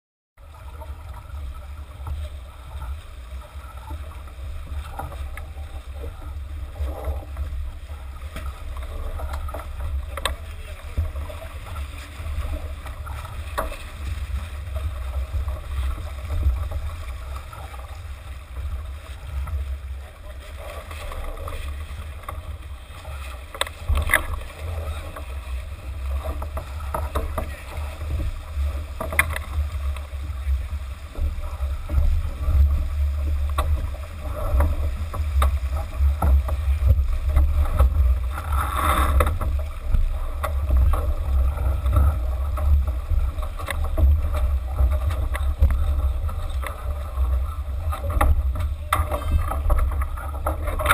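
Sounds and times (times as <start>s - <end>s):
water rushing along hull: 0.4s - 50.9s
wind rumbling on microphone: 0.4s - 50.9s.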